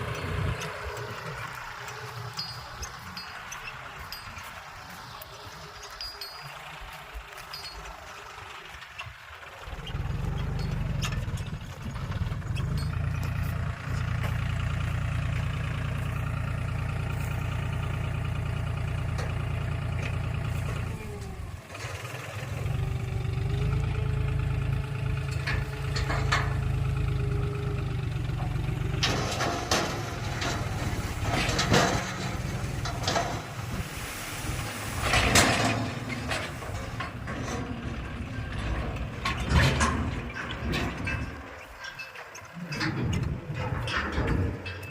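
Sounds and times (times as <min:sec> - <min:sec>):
sharp metallic clanks and knocks: 0:00.0 - 0:22.8, 0:23.6 - 0:44.9
heavy diesel engine running: 0:00.0 - 0:44.9.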